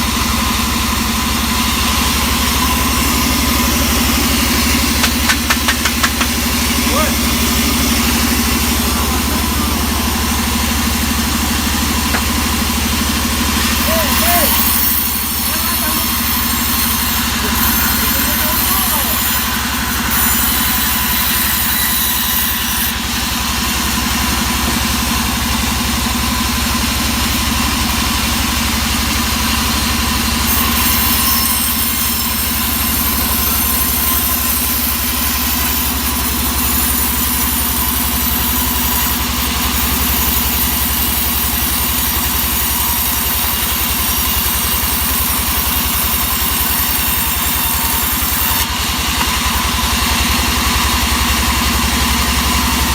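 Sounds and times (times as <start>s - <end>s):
engine running steadily: 0.0s - 31.2s, 31.8s - 52.9s.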